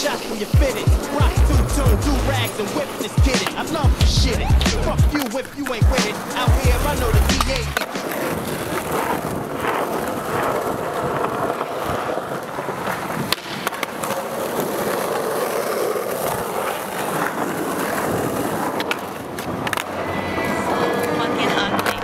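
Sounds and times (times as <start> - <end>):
skateboard clack: 0.0 - 22.0
skateboard wheels rolling on concrete: 0.0 - 22.0.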